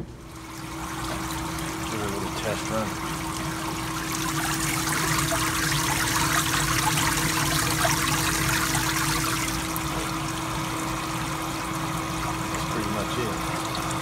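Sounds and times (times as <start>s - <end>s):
pump motor hum: 0.0s - 14.0s
water splashing and trickling: 0.2s - 14.0s.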